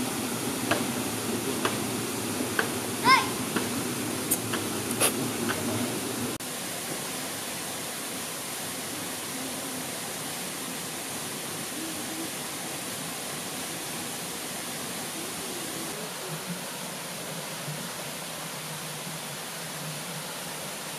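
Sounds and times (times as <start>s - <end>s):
water rushing over weir: 0.0s - 20.9s.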